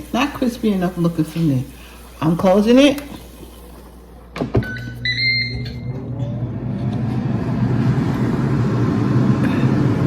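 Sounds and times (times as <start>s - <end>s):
air fryer fan whirring: 0.0s - 10.0s.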